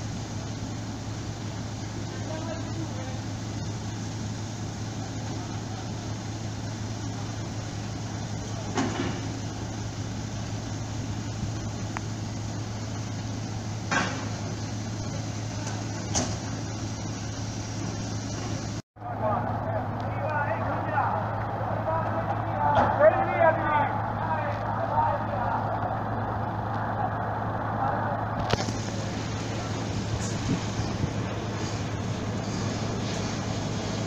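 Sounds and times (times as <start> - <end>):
diesel machinery drone: 0.0 - 34.0.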